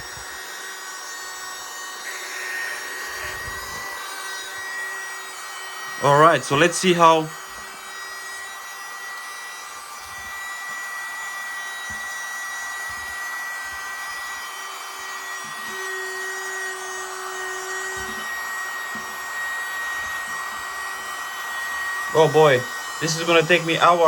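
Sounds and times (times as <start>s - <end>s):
small vacuum cleaner whine: 0.0s - 24.0s.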